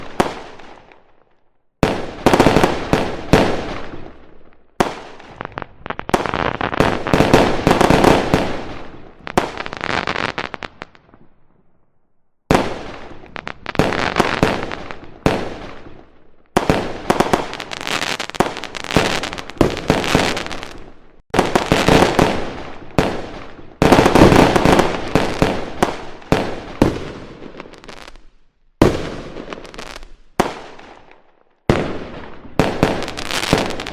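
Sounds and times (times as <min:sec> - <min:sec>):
fireworks crackling and popping: 0:00.0 - 0:01.2, 0:01.8 - 0:11.4, 0:12.5 - 0:33.9.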